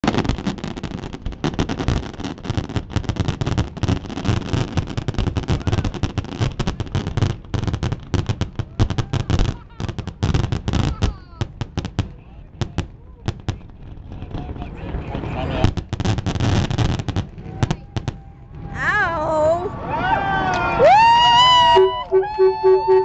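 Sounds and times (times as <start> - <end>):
fireworks exploding: 0.0 - 19.6, 20.8 - 23.0.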